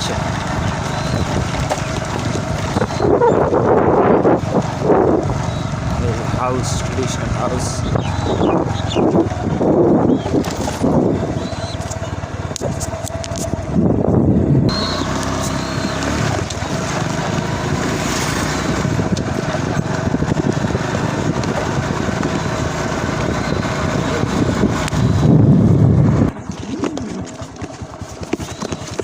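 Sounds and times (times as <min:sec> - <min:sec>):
small motorcycle engine running: 0:00.0 - 0:29.0
wind on microphone: 0:00.0 - 0:29.0.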